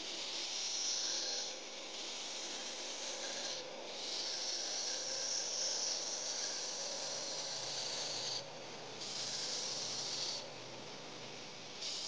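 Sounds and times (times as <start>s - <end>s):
belt grinder sanding wood: 0.0s - 10.5s, 11.8s - 12.0s
faint motor hum: 0.0s - 12.0s.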